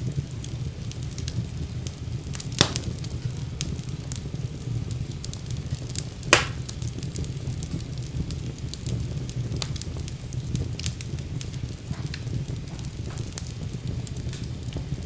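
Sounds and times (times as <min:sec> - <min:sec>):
fire pops: 0:00.0 - 0:15.0
wood fire crackling: 0:00.0 - 0:15.0.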